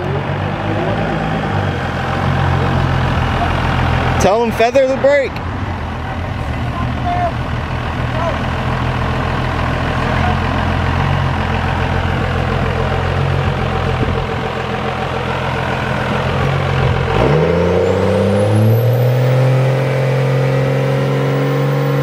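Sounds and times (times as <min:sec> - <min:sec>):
diesel truck engine idling and revving: 0:00.0 - 0:22.0.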